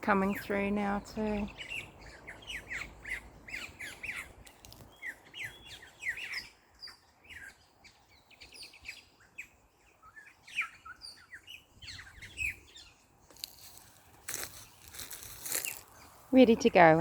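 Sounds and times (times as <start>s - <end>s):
flock of birds chirping: 0.0s - 17.0s.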